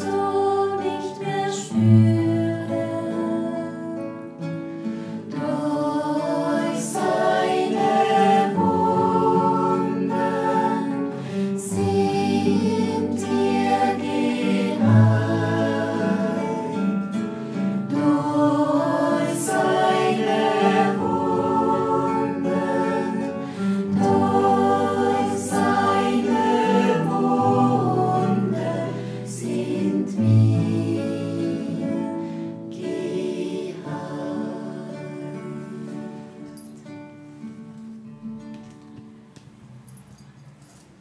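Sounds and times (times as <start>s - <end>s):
choir singing a slow hymn: 0.0s - 36.8s.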